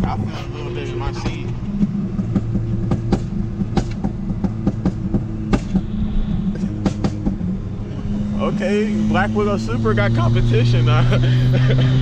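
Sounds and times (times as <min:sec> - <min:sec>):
exhaust popping cracks: 0:00.0 - 0:11.2
car engine running: 0:00.0 - 0:12.0.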